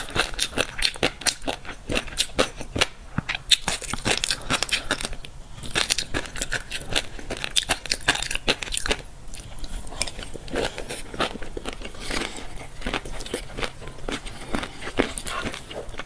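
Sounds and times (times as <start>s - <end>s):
chewing fish roe popping: 0.0s - 16.0s.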